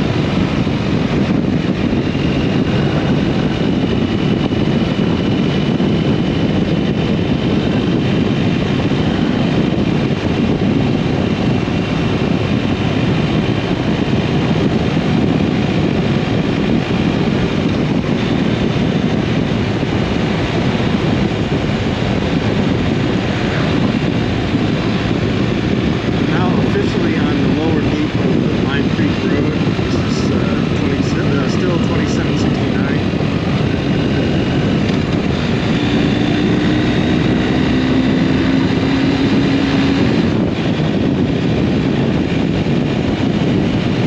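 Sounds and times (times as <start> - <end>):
motorcycle running: 0.0 - 44.0
wind buffeting microphone: 0.0 - 44.0.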